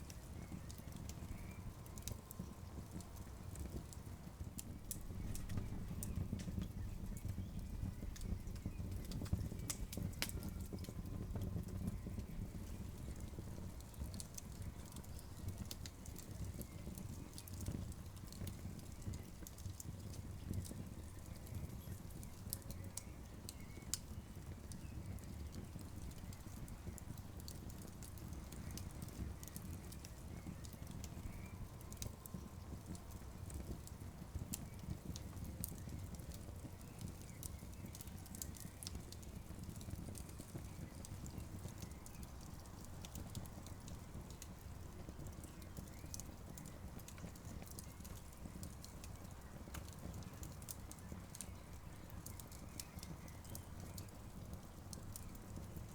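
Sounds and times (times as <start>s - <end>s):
campfire crackling and popping: 0.0s - 55.9s
low rumble of burning fire: 0.0s - 55.9s.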